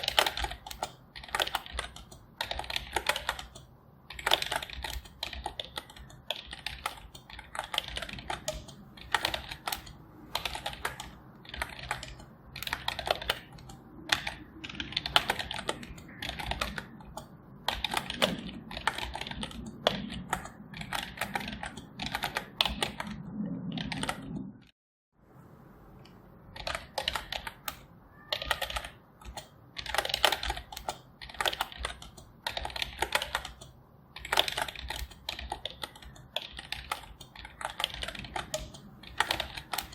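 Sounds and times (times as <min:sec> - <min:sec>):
keyboard typing: 0:00.0 - 0:24.7, 0:26.0 - 0:39.9.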